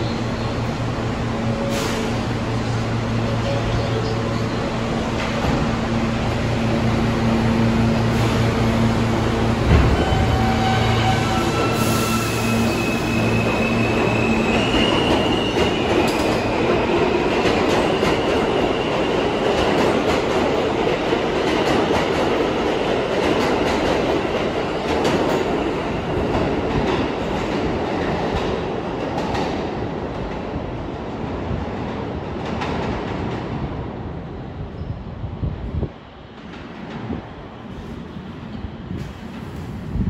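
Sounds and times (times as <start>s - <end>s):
subway train wheel and track noise: 0.0s - 40.0s.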